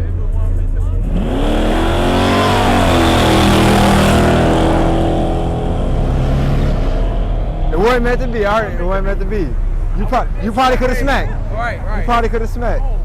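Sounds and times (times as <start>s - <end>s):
car engine revving: 0.5s - 11.8s.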